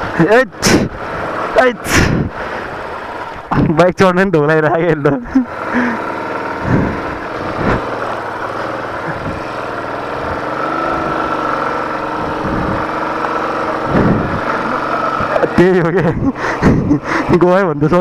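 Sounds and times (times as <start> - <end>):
motorcycle engine under load: 0.0 - 18.0.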